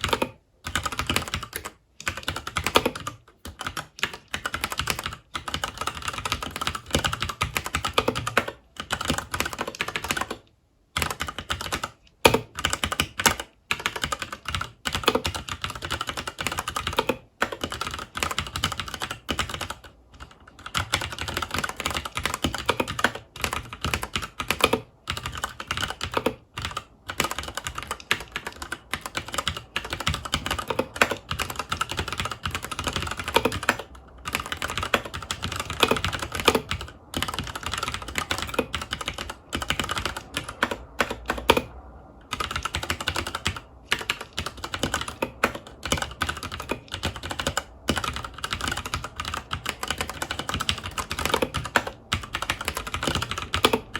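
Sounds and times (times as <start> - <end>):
mechanical keyboard typing: 0.0 - 53.9.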